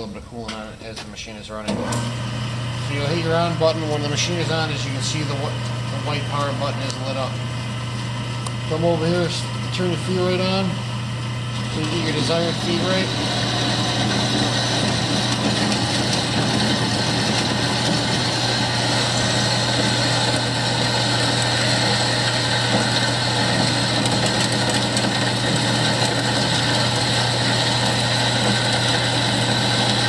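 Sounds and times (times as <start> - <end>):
bandsaw motor hum: 1.7 - 30.0.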